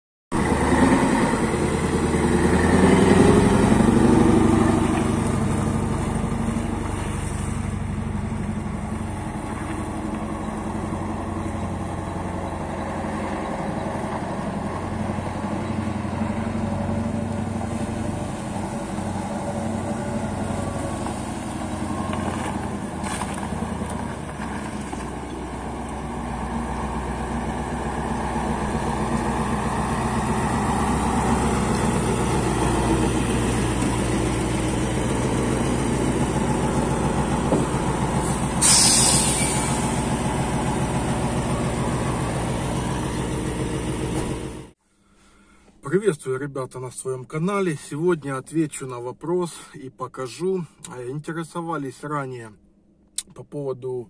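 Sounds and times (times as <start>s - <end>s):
diesel engine running: 0.3s - 44.8s.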